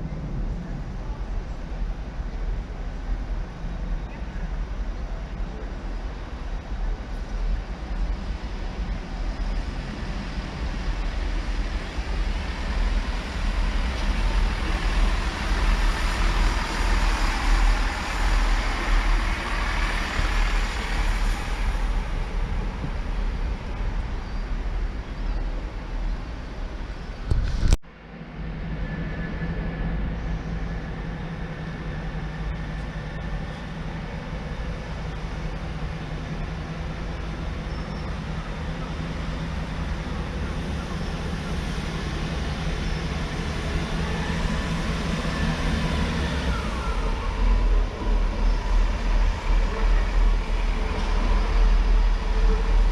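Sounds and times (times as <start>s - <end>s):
diesel train engine rumble: 0.0s - 52.9s
rail noise: 0.0s - 52.9s
steady engine hum: 0.0s - 52.9s.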